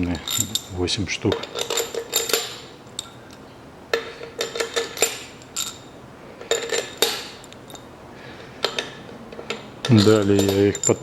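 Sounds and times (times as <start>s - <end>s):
metal bolts clinking: 0.0s - 3.2s, 3.9s - 11.0s.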